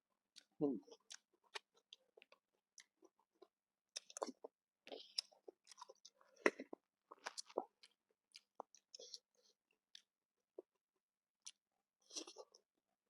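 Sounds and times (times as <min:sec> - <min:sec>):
chewing and wet mouth clicks: 0:00.3 - 0:10.7, 0:11.4 - 0:12.6.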